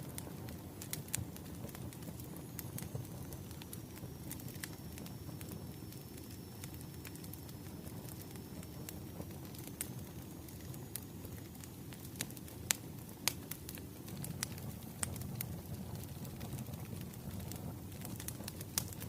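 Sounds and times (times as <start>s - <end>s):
bonfire crackling and popping: 0.0s - 19.0s
low rumble of burning wood: 0.0s - 19.0s.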